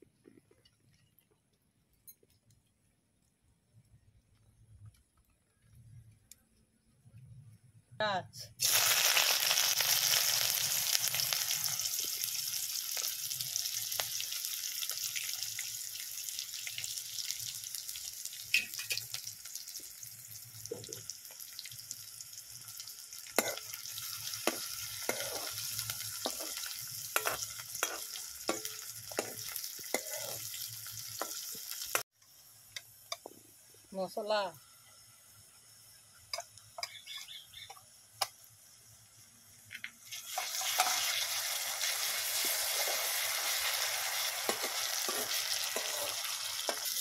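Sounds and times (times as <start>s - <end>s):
onions sizzling in hot oil: 8.6s - 47.0s.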